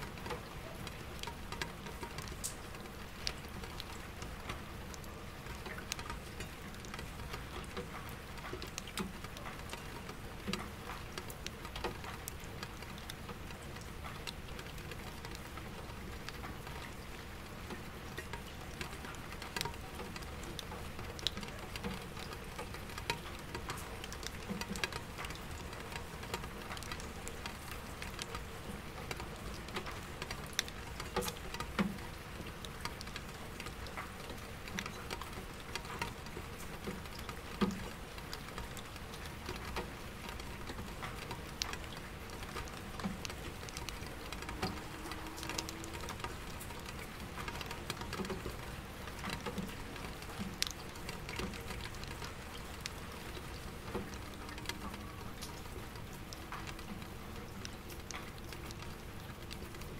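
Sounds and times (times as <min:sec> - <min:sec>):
rain pattering on window glass: 0:00.0 - 0:59.9.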